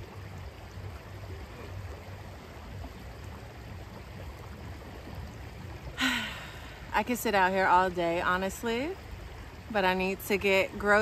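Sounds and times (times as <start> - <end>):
stream flowing: 0.0 - 11.0.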